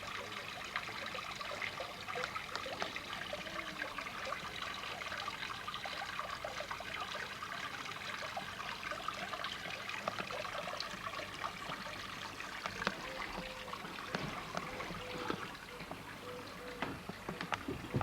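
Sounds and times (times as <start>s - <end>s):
small bubbling drips: 0.0s - 18.0s
water trickling: 0.0s - 18.0s.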